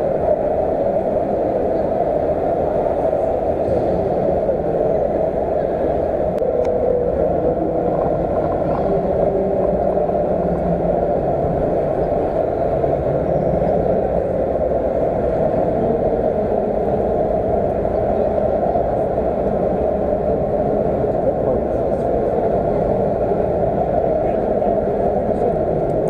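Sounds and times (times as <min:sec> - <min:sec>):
crowd chatter: 0:00.0 - 0:26.0
hum of vehicles: 0:00.0 - 0:26.0.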